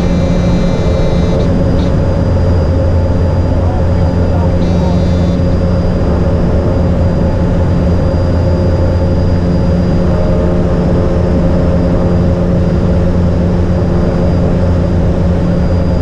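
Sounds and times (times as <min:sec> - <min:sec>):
propeller engine drone in cabin: 0:00.0 - 0:16.0
thin high engine whine: 0:00.0 - 0:16.0.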